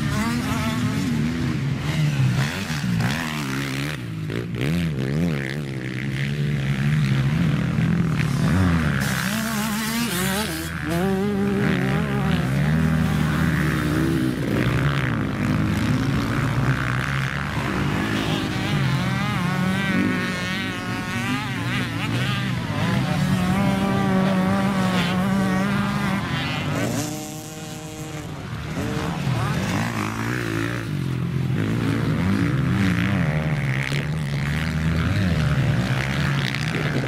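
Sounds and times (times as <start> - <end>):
motocross engines revving: 0.0 - 37.0.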